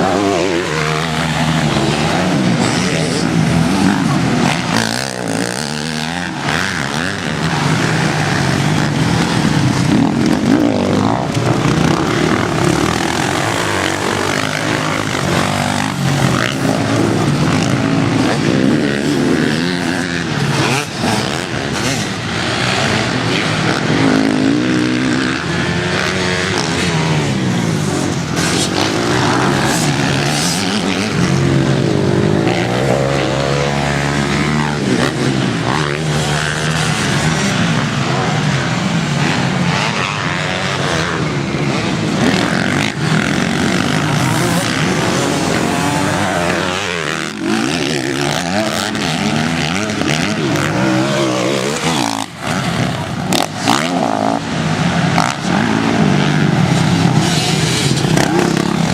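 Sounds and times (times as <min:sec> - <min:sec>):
motocross motorcycle engine revving: 0:00.0 - 0:58.9.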